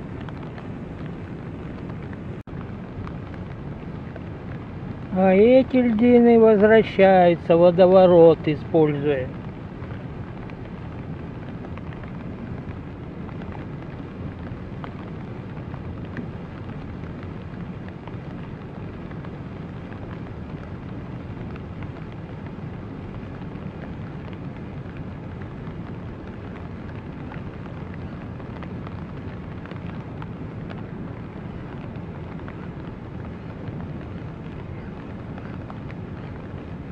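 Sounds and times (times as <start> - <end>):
moving water: 0.0 - 36.9.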